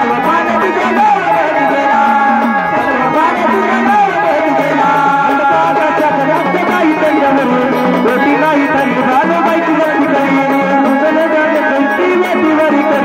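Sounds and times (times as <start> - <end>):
hand drum beat: 0.0 - 13.0.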